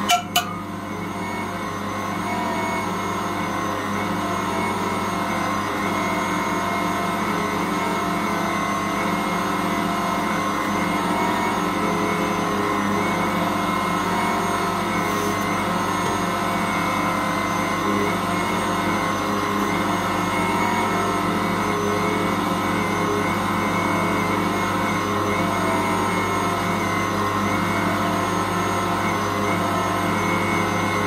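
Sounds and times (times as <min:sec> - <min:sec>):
stand mixer motor hum: 0:00.0 - 0:31.0.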